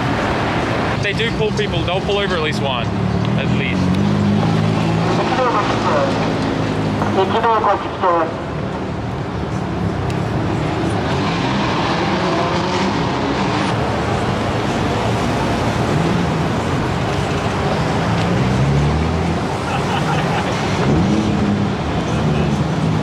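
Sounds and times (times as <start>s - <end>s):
car engines driving off: 0.0s - 23.0s
road noise: 0.0s - 23.0s.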